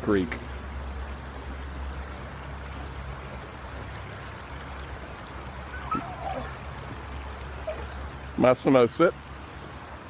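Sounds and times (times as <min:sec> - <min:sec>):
creek water rushing over rocks: 0:00.0 - 0:10.0.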